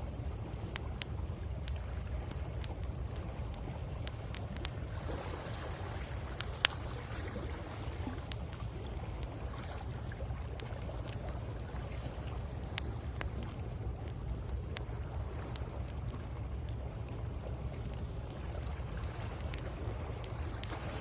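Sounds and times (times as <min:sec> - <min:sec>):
campfire crackling and popping: 0:00.0 - 0:21.0
sea waves on shore: 0:00.0 - 0:21.0.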